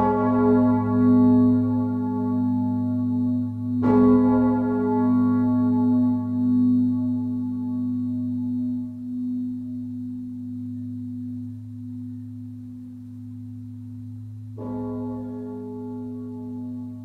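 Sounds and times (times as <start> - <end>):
church bell humming: 0.0 - 17.0.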